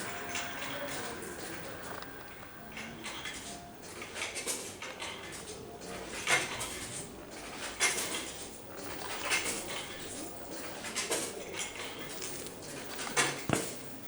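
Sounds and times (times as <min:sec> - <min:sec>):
cups dishes and cutlery clattering: 0:00.0 - 0:13.9.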